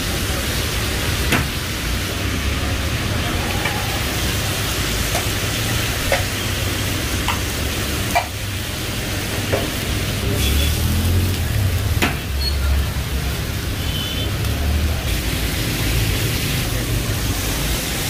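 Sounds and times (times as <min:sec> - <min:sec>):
food sizzling in woks: 0:00.0 - 0:18.0.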